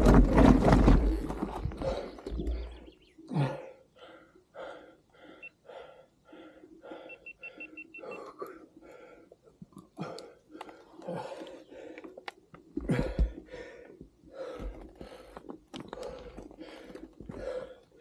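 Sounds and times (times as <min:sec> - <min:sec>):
man panting: 0:01.7 - 0:18.0.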